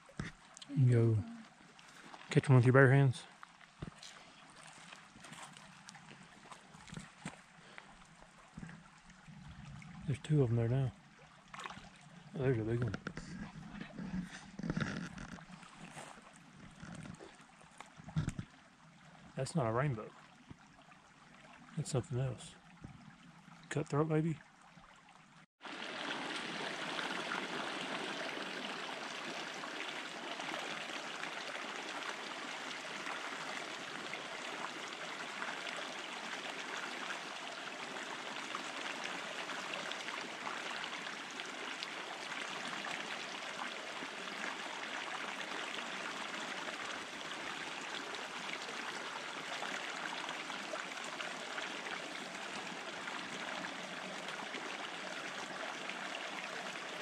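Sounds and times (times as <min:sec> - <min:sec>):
creek running over rocks: 0:00.0 - 0:57.0.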